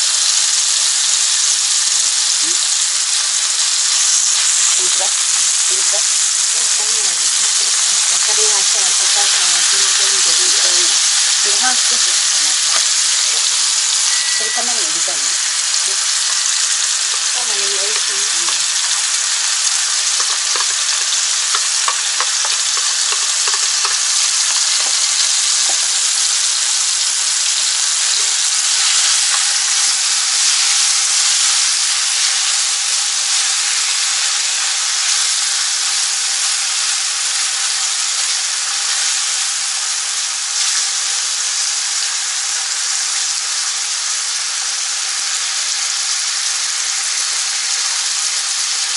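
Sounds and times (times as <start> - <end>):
meat sizzling in a frying pan: 0.0 - 48.9.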